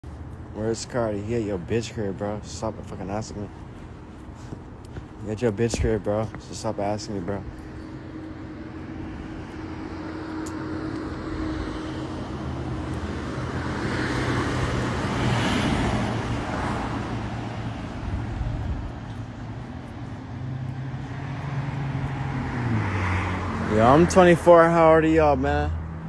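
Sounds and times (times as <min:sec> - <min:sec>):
vehicle passing: 0:00.1 - 0:26.0.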